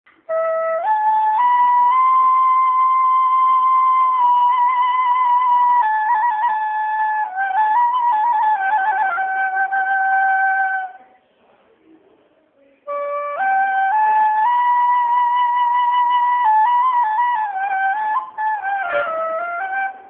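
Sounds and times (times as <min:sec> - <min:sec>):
slow flute-like melody: 0:00.1 - 0:11.0, 0:12.9 - 0:20.0.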